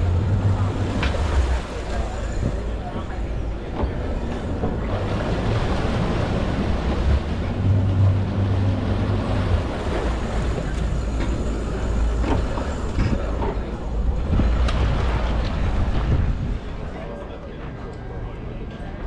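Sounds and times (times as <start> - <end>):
outboard motors humming: 0.0 - 19.0
propeller churning water: 0.0 - 19.0.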